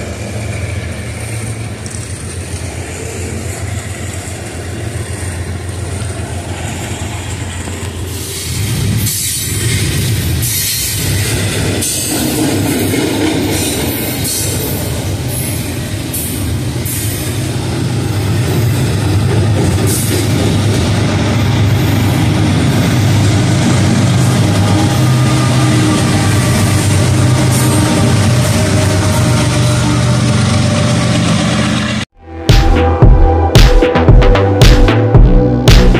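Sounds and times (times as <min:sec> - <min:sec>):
train wheels rumbling and rattling: 0:00.0 - 0:32.1
diesel locomotive engine hum: 0:00.0 - 0:35.9.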